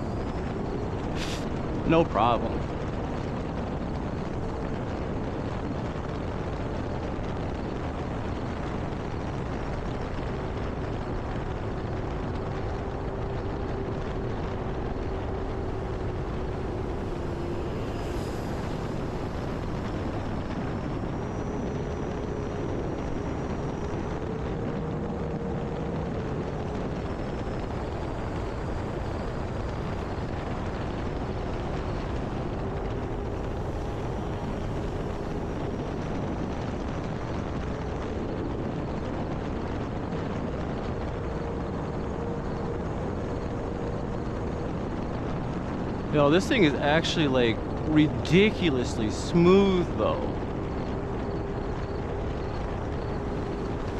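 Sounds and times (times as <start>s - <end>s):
wind noise: 0.0s - 53.9s.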